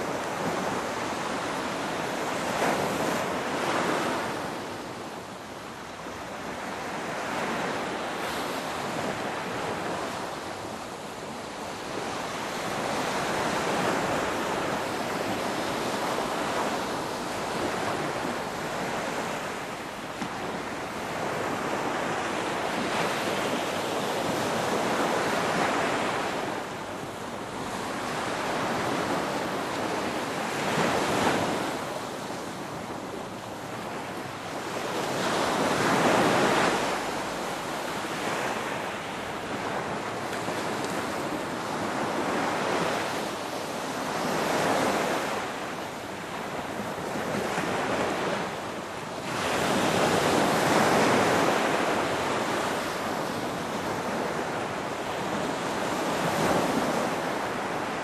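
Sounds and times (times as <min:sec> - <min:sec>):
ocean waves breaking on shore: 0:00.0 - 0:58.0
wind: 0:00.0 - 0:58.0.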